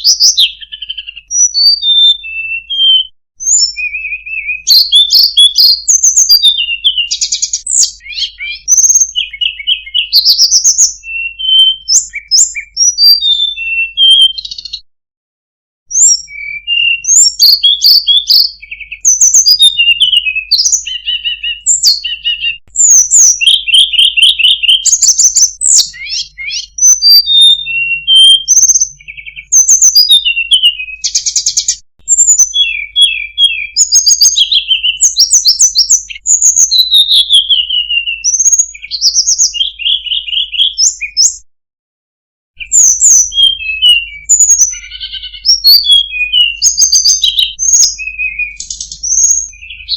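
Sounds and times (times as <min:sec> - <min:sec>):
songbird chirps trills and whistles: 0:00.0 - 0:14.8, 0:15.9 - 0:41.4, 0:42.6 - 0:49.9.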